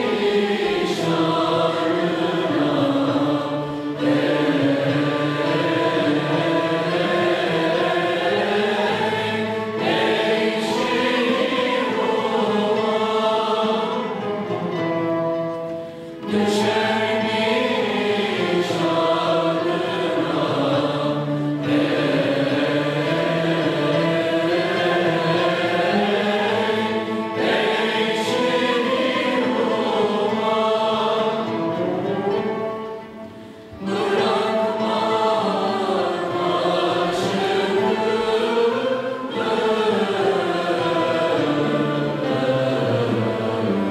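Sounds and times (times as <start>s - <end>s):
mixed choir singing: 0.0s - 43.9s
traditional music ensemble: 0.0s - 43.9s.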